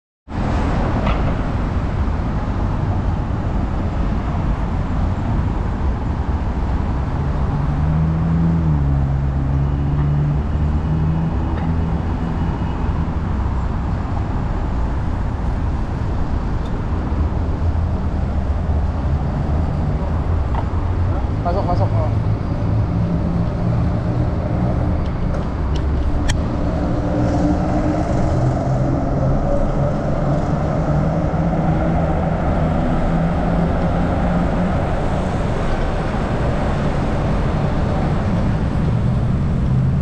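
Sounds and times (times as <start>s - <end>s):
street traffic noise: 0.3s - 40.0s
heavy vehicle engine passing: 0.4s - 40.0s.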